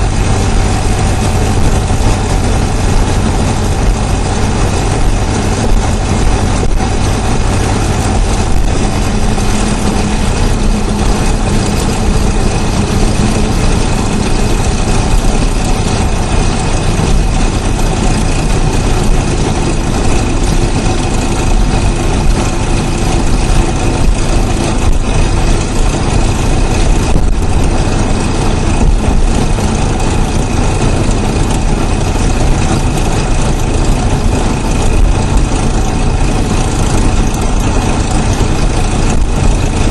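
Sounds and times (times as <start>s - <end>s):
car engine running: 0.0s - 39.9s
fast engine chatter: 0.0s - 39.9s.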